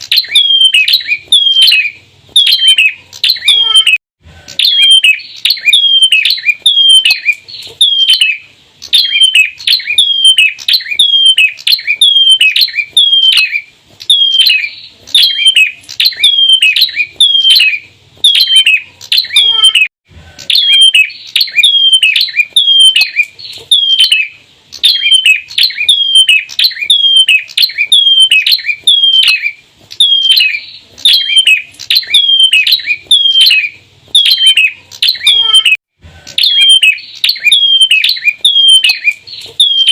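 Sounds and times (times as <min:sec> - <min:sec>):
birds calling falling notes: 0:00.0 - 0:39.9.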